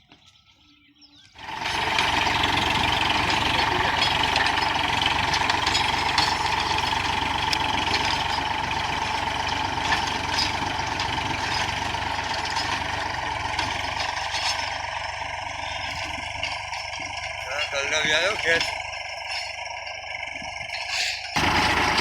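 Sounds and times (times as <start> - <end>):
tractor engine running: 1.2 - 22.0.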